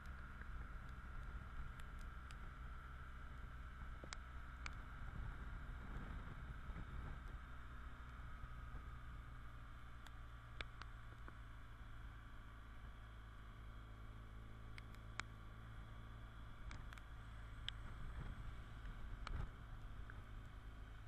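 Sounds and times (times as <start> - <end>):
muffled motorcycle engine drone: 0.0 - 21.0
road noise: 0.0 - 21.0.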